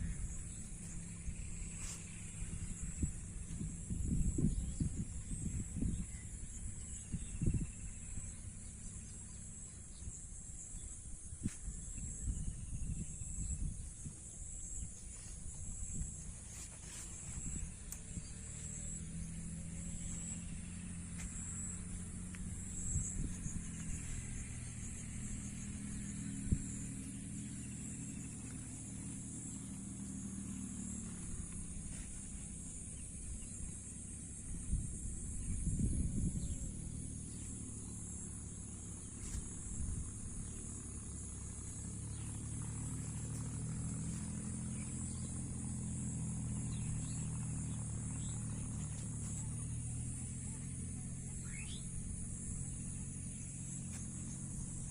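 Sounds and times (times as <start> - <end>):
insects chirping: 0.0 - 54.9
vehicle engine hum: 0.0 - 54.9
low rumble: 10.0 - 54.9.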